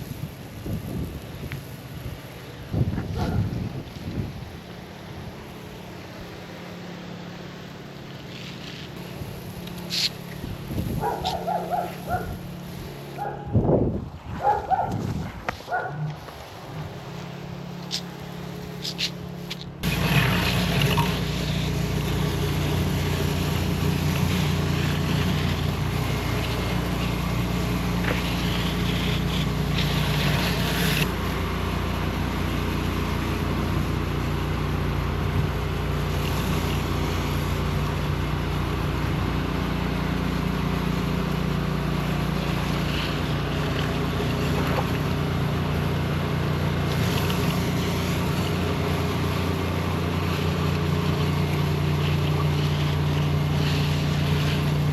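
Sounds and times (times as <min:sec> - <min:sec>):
water spray hissing: 0:00.0 - 0:13.2, 0:15.5 - 0:34.8, 0:35.4 - 0:38.8, 0:40.3 - 0:54.9
pressure washer engine running: 0:00.0 - 0:54.9.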